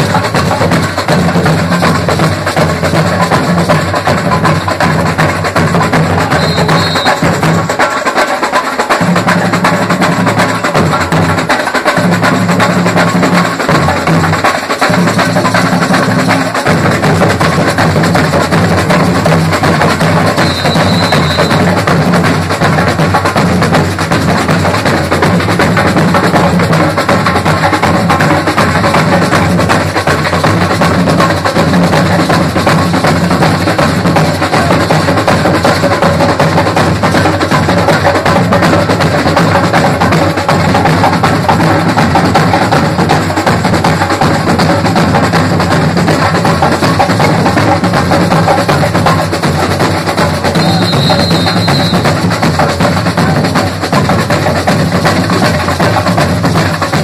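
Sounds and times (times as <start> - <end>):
snare drums: 0.0 - 57.0.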